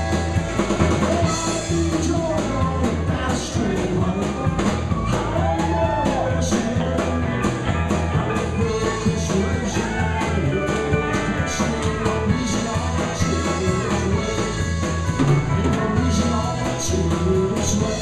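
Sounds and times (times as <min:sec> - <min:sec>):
acoustic guitar: 0:00.0 - 0:18.0
drum kit: 0:00.0 - 0:18.0
electric bass: 0:00.0 - 0:18.0
man singing: 0:00.0 - 0:18.0.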